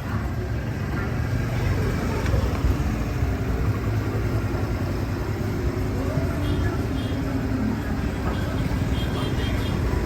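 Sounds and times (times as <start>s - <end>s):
street traffic: 0.0s - 10.0s
vehicle engine rumbling: 0.0s - 10.0s.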